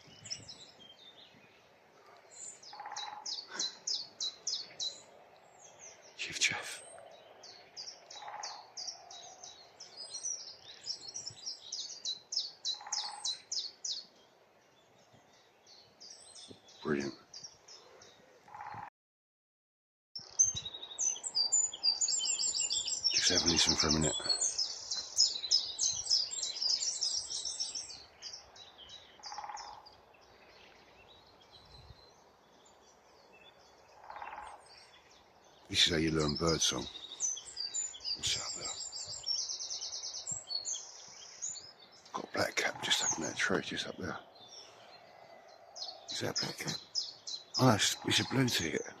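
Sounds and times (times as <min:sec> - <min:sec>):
distant woodpecker drumming: 0:00.0 - 0:18.9, 0:20.3 - 0:49.0
other birdsong: 0:00.0 - 0:18.9, 0:20.2 - 0:49.0
songbird singing: 0:00.0 - 0:18.9, 0:20.2 - 0:49.0.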